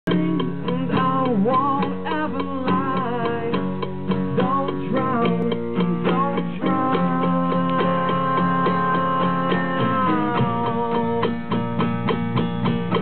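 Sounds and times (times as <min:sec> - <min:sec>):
guitar: 0:00.0 - 0:13.0.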